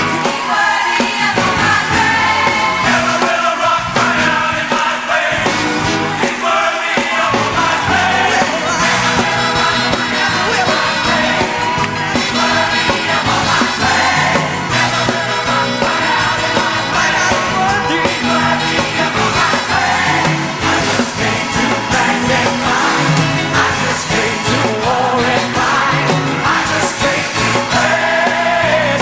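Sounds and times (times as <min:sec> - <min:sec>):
group of voices singing: 0:00.0 - 0:29.0
instrumental accompaniment with beat: 0:00.0 - 0:29.0.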